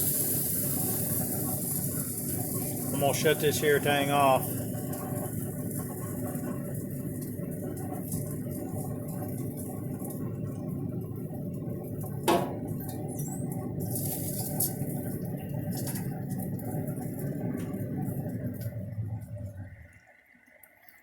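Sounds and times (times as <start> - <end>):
grill fan humming: 0.0 - 21.0.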